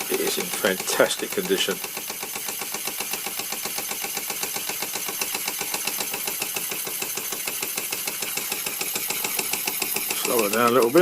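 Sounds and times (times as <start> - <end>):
toy steam engine running fast: 0.0 - 11.0.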